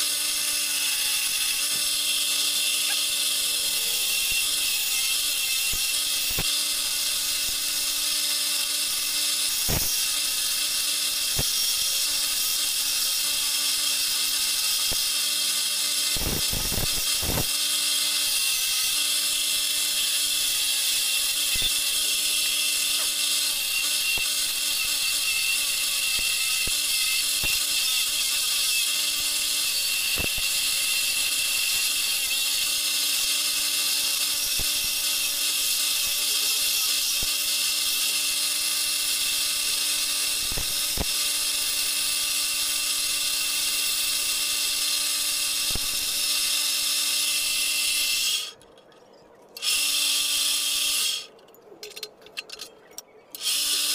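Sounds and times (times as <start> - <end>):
chisel cutting spinning wood: 0.0 - 48.6, 53.4 - 53.9.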